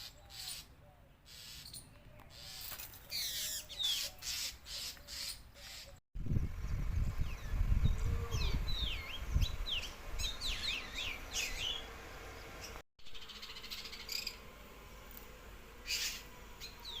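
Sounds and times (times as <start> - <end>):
small birds chirping: 0.0 - 6.0, 6.6 - 14.5, 15.8 - 17.0.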